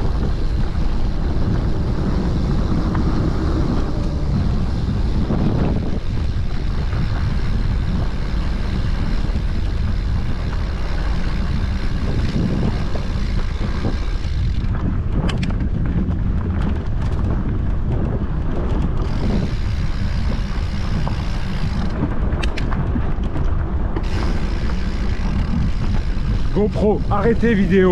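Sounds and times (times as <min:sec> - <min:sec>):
mountain bike rattling on dirt track: 0:00.0 - 0:27.9
wind buffeting microphone: 0:00.0 - 0:27.9.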